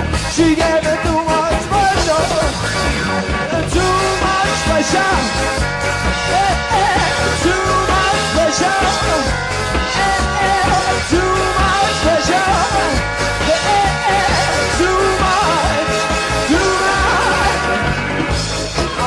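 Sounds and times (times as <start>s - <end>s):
reggae band music: 0.0s - 19.0s.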